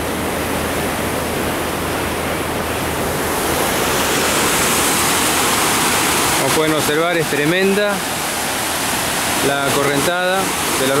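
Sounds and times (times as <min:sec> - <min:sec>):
rushing floodwater: 0:00.0 - 0:11.0.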